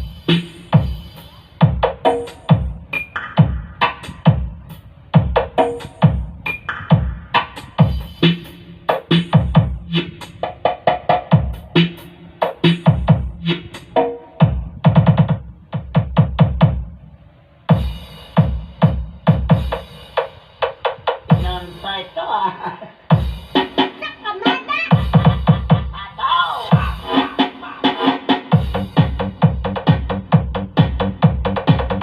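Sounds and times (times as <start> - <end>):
electronic dance music: 0.0 - 16.7, 21.3 - 32.0
drum roll: 0.0 - 16.9, 17.7 - 22.4, 23.1 - 32.0.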